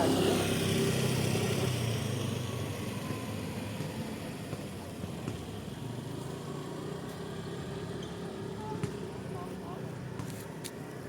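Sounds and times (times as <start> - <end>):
traffic noise: 0.0 - 11.0
vehicle engine running: 0.0 - 11.0.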